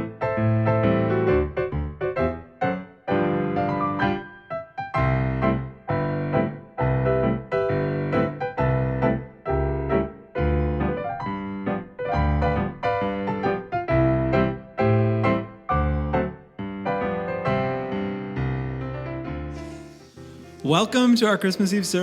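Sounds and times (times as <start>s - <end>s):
piano playing slow chords: 0.0s - 22.0s.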